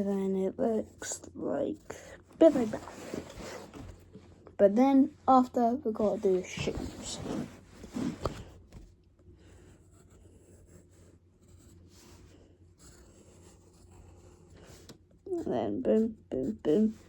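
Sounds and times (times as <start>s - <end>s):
pencil scratching on paper: 0.0s - 3.9s, 6.0s - 8.6s, 9.4s - 17.0s.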